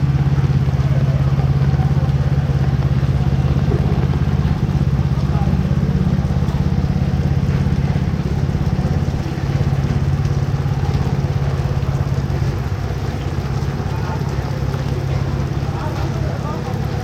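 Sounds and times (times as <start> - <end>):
rain falling on street: 0.0 - 17.0
small engine idling: 0.0 - 17.0.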